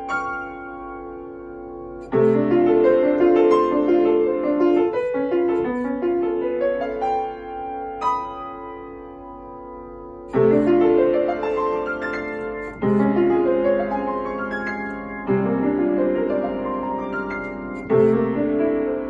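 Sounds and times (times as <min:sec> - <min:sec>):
solo piano playing slowly: 0:00.0 - 0:19.0.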